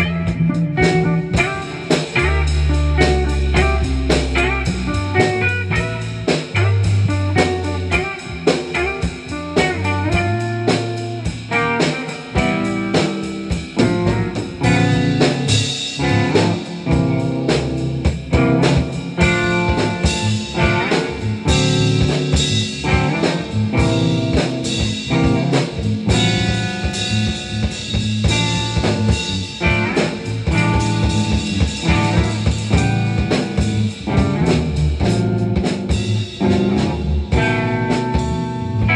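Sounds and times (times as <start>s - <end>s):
drum kit beat: 0.0s - 38.9s
electric guitar lines: 0.0s - 38.9s
low bass notes: 0.0s - 38.9s.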